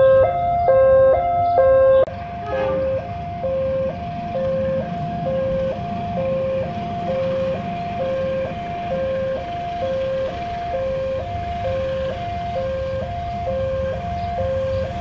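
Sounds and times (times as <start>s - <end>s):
level crossing two-tone alarm: 0.0s - 2.1s, 2.8s - 15.0s.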